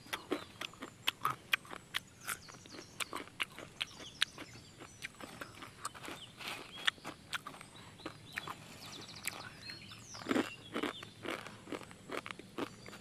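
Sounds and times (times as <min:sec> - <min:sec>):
crunchy chewing of dry noodles: 0:00.0 - 0:13.0.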